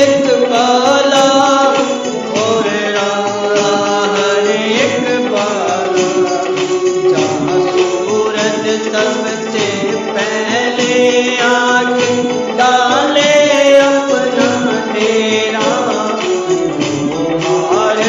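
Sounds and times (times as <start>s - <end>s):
instrumental music with percussion: 0.0s - 18.0s
person singing: 0.0s - 18.0s.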